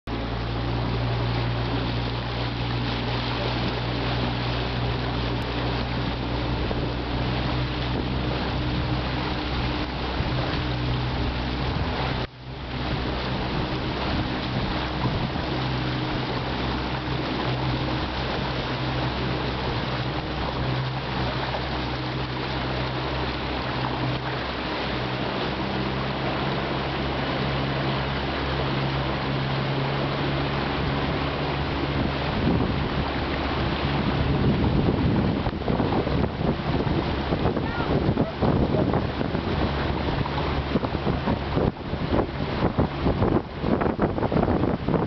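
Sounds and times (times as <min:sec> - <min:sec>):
boat engine humming: 0:00.0 - 0:45.0
wind and water rushing: 0:00.0 - 0:45.0.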